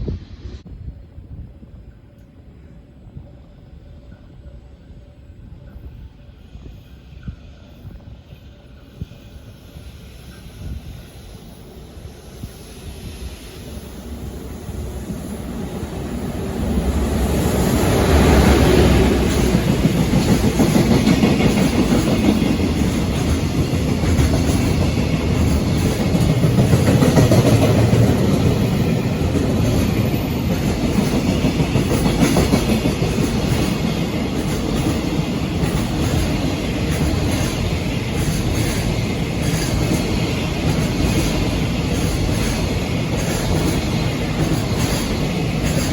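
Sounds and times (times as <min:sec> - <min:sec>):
freight train passing: 0:00.0 - 0:45.9.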